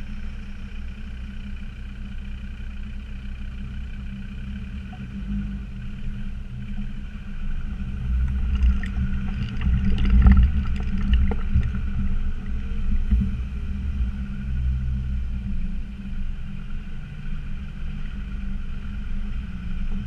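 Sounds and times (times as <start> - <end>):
diesel engine running while driving: 0.0 - 20.0.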